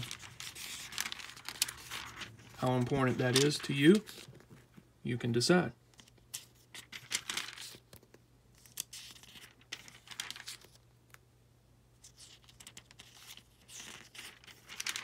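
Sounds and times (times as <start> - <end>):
paper pages rustling: 0.0 - 4.8, 5.9 - 10.8, 12.0 - 15.0.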